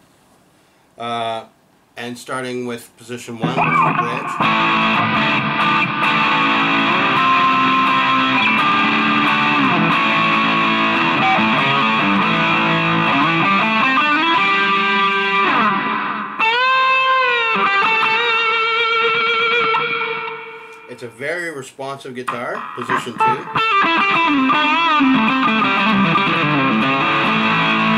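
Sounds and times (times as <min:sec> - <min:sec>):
distorted electric guitar riffs: 0:03.4 - 0:21.1, 0:22.3 - 0:27.9.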